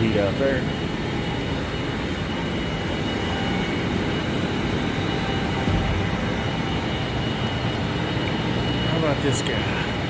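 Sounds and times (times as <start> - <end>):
faint high whine: 0.0 - 10.0
low machinery rumble: 0.0 - 10.0.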